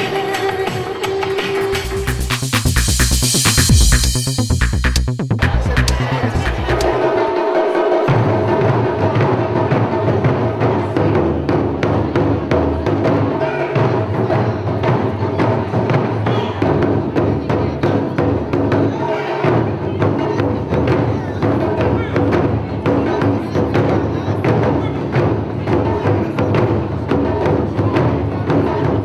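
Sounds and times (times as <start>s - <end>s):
background music with percussive beat: 0.0s - 29.0s.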